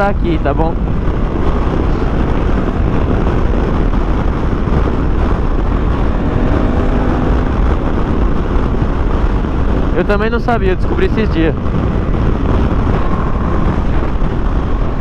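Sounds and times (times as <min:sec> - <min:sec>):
wind and road noise: 0:00.0 - 0:15.0
motorcycle engine running: 0:00.7 - 0:15.0.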